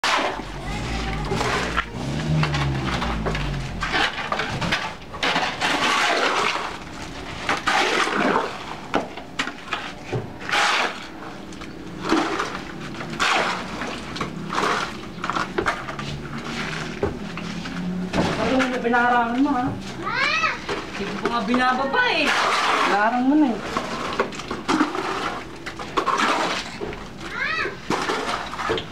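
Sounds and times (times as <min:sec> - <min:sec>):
wet cement slapping: 0:00.0 - 0:19.8, 0:20.6 - 0:28.9
shovel scraping concrete floor: 0:00.0 - 0:26.9, 0:27.8 - 0:28.9.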